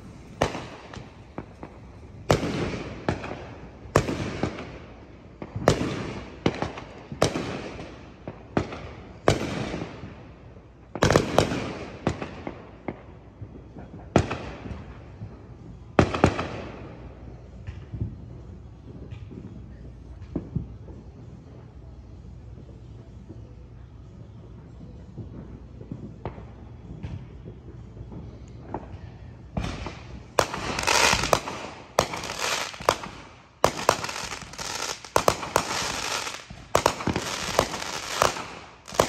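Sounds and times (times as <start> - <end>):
fireworks exploding with echo: 0.0 - 39.0.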